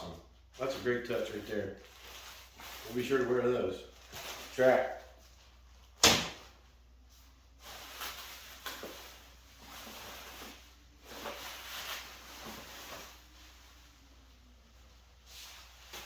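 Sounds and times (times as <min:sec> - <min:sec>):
packing material rustling: 0:00.5 - 0:16.0.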